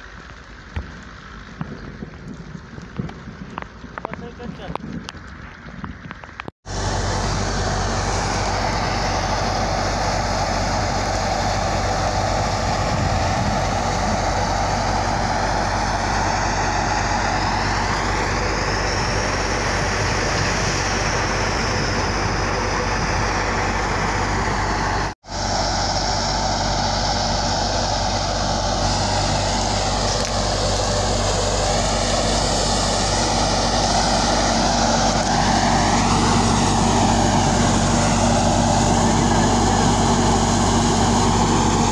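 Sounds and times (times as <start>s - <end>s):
low engine hum: 0.0s - 41.9s
threshing machine running: 0.0s - 41.9s.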